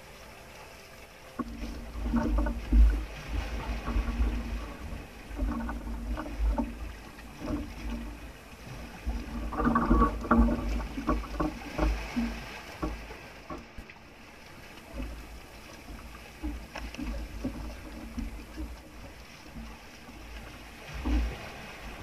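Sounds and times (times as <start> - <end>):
water splashing against hull: 0.0 - 22.0.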